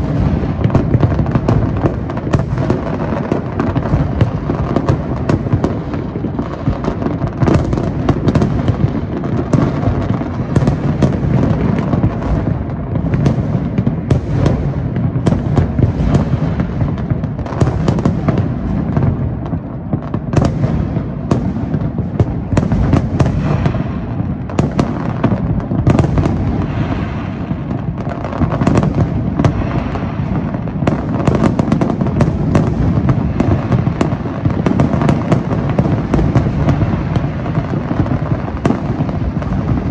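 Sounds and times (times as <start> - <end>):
fireworks bursting: 0.0 - 39.9
sharp firework cracks: 0.0 - 39.9.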